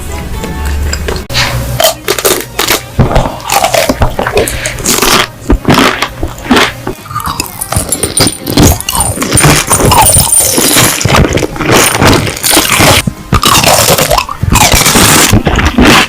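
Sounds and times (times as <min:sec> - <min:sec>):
chewing crisp food: 0:01.8 - 0:16.0.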